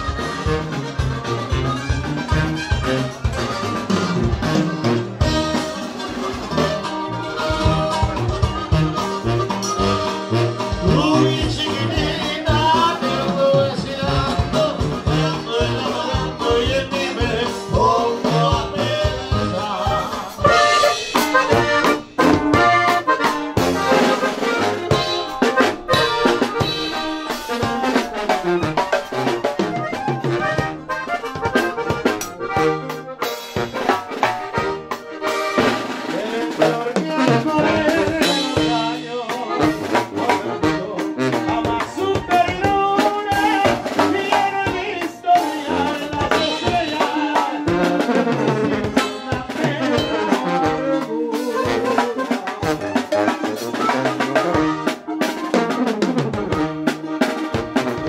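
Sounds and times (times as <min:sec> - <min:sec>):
button accordion playing: 0:00.0 - 0:58.0
live band music: 0:00.0 - 0:58.0.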